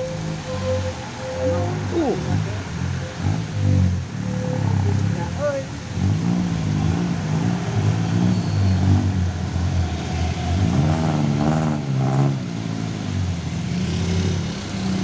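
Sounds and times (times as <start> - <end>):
heavy truck engine labouring: 0.0 - 15.0.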